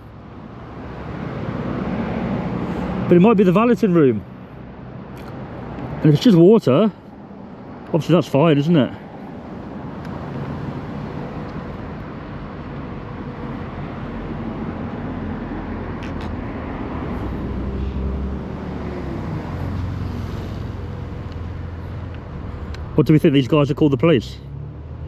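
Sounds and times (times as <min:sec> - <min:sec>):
vehicle engine passing by: 0:00.0 - 0:06.4, 0:09.0 - 0:25.0
road traffic rumble: 0:00.0 - 0:25.0.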